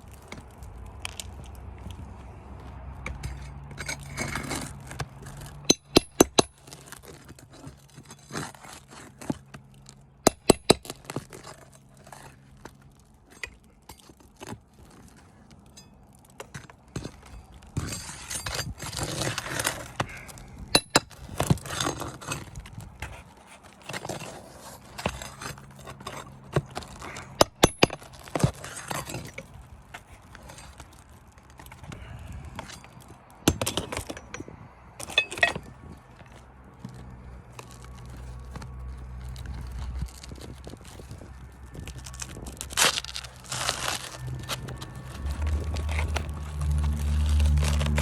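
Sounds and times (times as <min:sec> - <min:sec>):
tools clinking and scraping roofing: 0:00.0 - 0:48.0.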